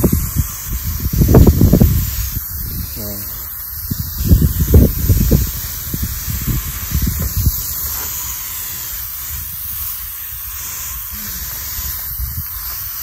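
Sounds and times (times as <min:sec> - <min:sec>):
water spray hissing: 0:00.0 - 0:13.0.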